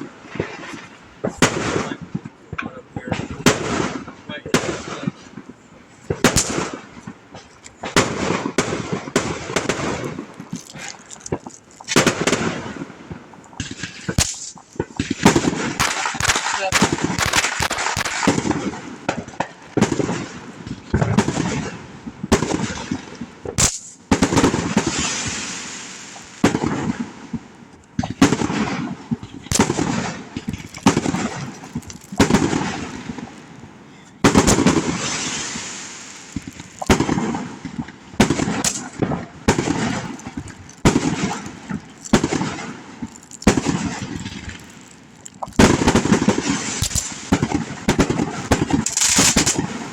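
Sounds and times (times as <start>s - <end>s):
fireworks bangs: 0.0s - 49.9s
fireworks crackling and hissing: 0.0s - 49.9s.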